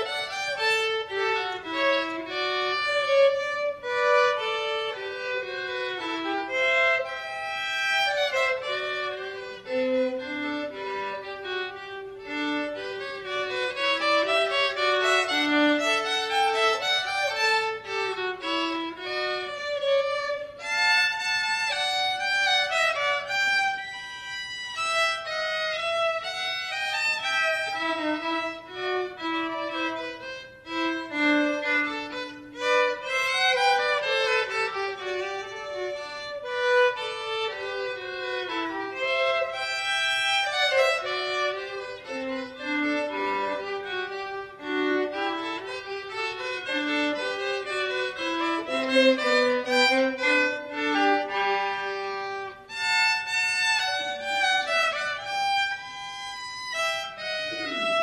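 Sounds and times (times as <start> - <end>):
violin and viola duet: 0.0 - 58.0.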